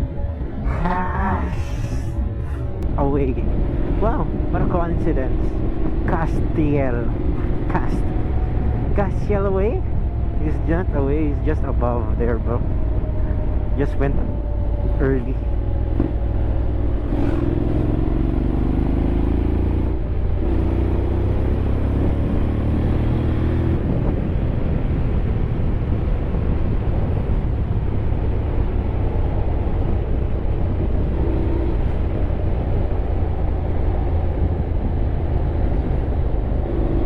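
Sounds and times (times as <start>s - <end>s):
wind noise: 0.0s - 19.1s, 19.8s - 37.0s
motorcycle engine drone: 0.0s - 37.0s
road rumble: 0.0s - 37.0s.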